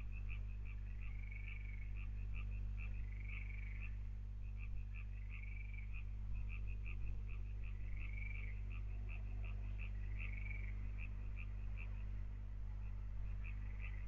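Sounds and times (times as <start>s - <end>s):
frogs croaking: 0.0s - 14.0s
steady low hum: 0.0s - 14.0s
frog warbling call: 0.3s - 4.0s, 4.6s - 12.1s, 13.3s - 14.0s.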